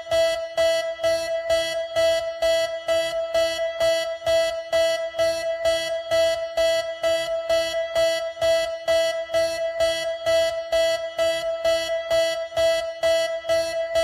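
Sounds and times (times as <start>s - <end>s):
pulsing electronic alarm tone: 0.0s - 14.0s.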